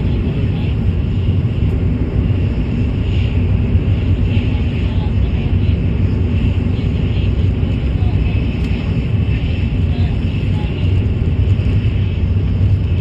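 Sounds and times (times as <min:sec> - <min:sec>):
high-speed train rumble: 0:00.0 - 0:13.0.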